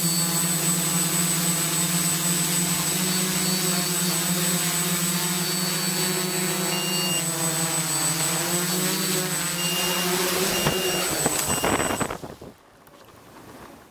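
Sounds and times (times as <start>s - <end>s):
quadcopter motors whining: 0.0s - 12.3s.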